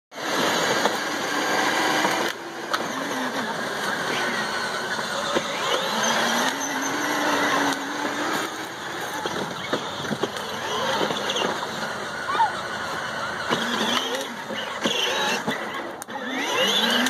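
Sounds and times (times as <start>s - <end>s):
electric motor whine: 0.2s - 17.0s
plastic wheels rolling on dirt: 0.2s - 17.0s.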